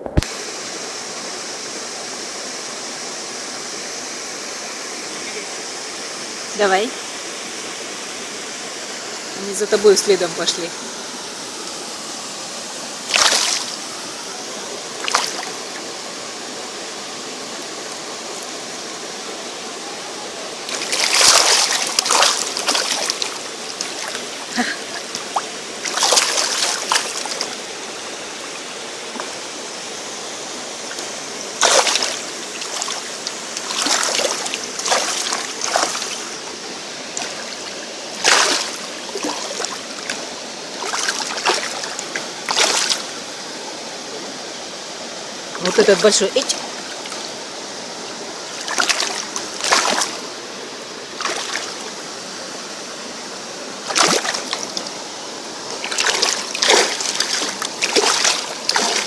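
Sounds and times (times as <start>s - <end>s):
waterfall rushing: 0.0s - 59.0s
water splashes: 8.5s - 59.0s.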